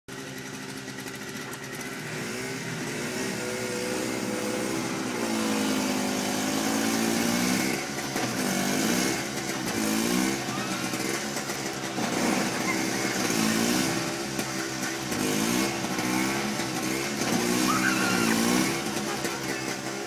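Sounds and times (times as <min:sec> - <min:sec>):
engine revving: 0:00.1 - 0:20.0.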